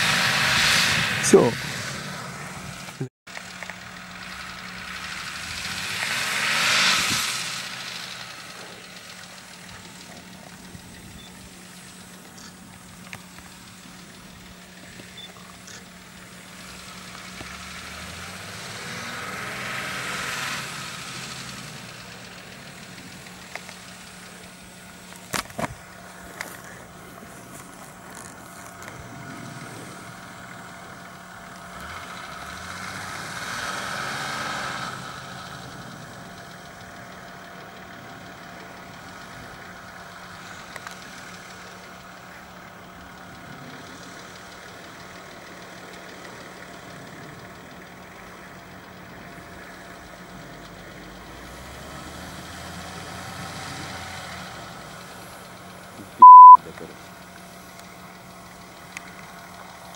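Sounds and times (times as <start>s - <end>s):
suv engine revving and idling: 0.0s - 59.9s.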